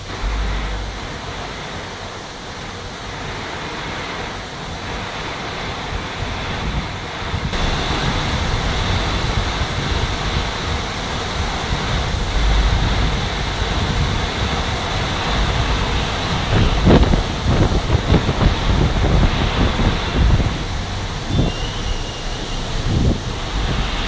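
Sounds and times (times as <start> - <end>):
wind and rain rushing: 0.0 - 24.0
wind buffeting microphone: 0.0 - 24.0.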